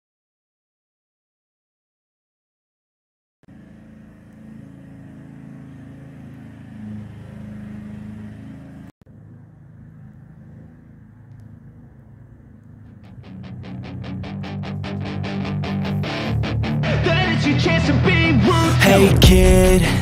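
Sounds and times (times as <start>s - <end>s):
car engine idling: 3.5s - 20.0s.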